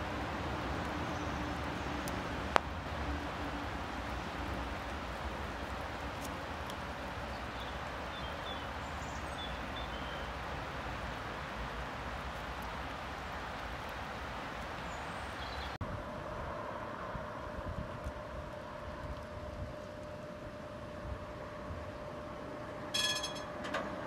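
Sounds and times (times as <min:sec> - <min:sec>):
distant traffic: 0:00.0 - 0:24.0
wind: 0:00.0 - 0:24.0.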